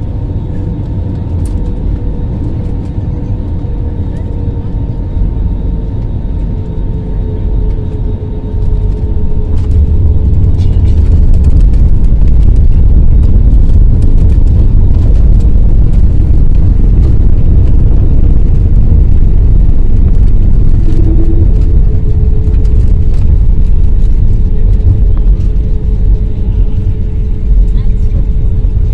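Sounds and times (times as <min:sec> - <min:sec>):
airliner cabin low rumble: 0:00.0 - 0:28.9
steady whine: 0:00.0 - 0:28.9.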